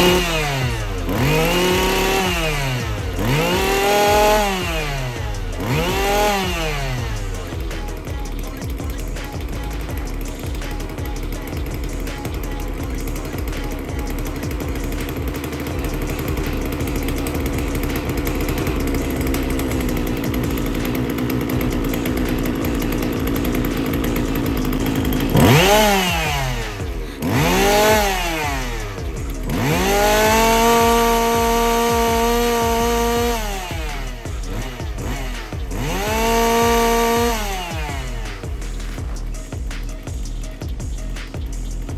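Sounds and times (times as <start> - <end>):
chainsaw idling: 0.0 - 41.9
chainsaw revving: 0.0 - 41.9.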